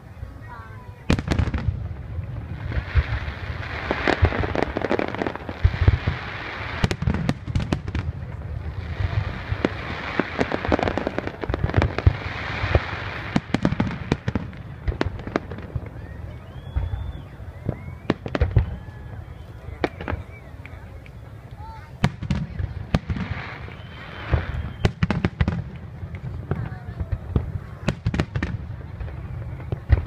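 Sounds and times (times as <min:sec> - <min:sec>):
fireworks bursting: 0:00.1 - 0:30.0.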